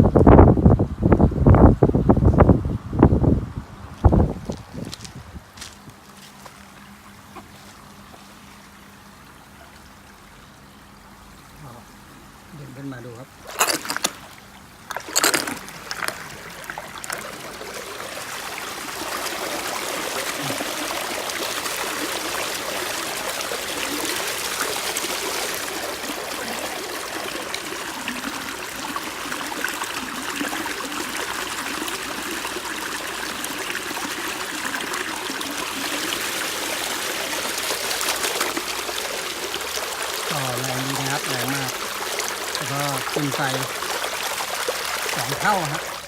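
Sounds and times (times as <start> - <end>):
water rushing from pond pump: 6.4 - 46.0.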